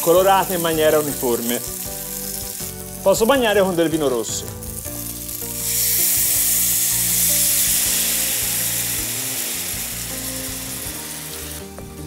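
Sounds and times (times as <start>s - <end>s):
wine sizzling in hot pan: 0.0s - 12.0s.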